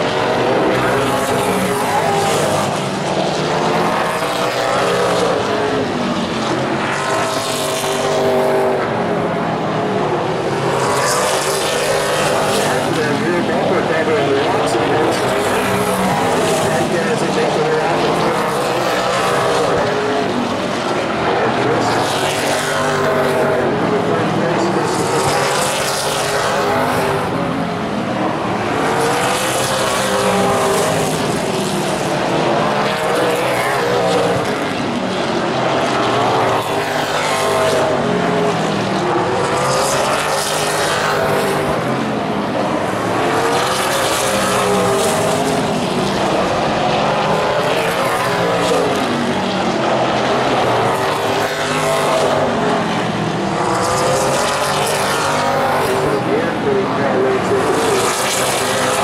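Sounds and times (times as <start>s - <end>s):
race car engines passing: 0.0s - 59.0s.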